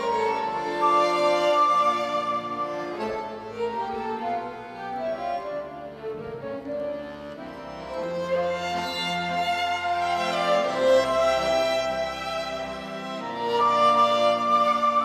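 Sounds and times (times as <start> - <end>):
flute: 0.0 - 7.1, 9.8 - 15.0
accordion: 0.0 - 15.0
violins: 0.0 - 15.0.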